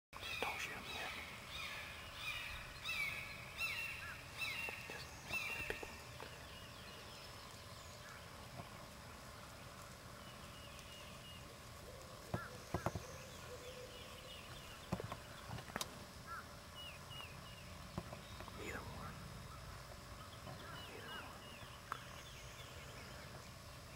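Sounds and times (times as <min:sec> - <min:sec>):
field ambience: 0:00.2 - 0:23.9
wild turkeys calling: 0:00.2 - 0:23.9.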